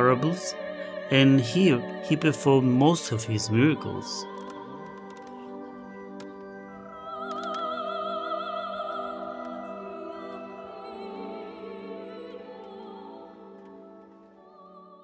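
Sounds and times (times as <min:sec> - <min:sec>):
operatic voice singing: 0:00.0 - 0:05.2, 0:06.9 - 0:15.0.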